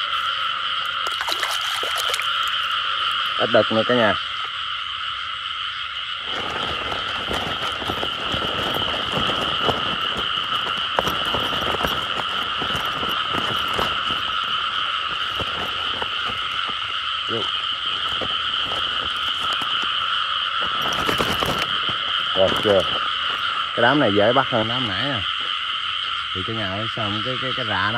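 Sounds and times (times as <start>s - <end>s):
frogs chorus calling: 0.0s - 27.9s.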